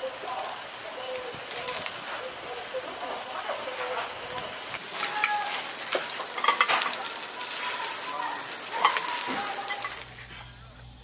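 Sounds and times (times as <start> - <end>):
fish sizzling on a grill: 0.0 - 11.0.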